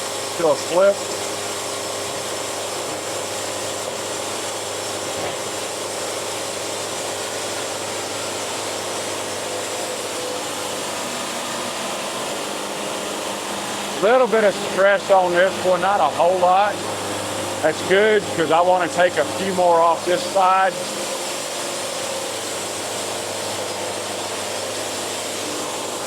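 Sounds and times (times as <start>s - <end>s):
sawmill hum and hiss: 0.0s - 26.0s.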